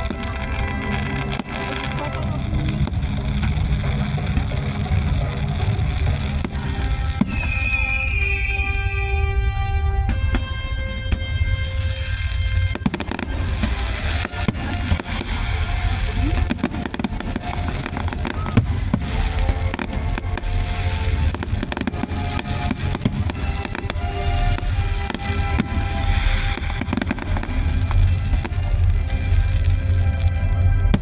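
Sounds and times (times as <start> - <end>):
fireworks cracking and banging: 0.0 - 31.0.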